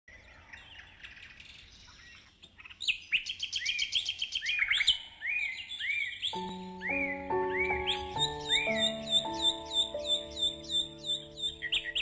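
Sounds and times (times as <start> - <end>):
songbirds chirping: 0.1 - 12.0.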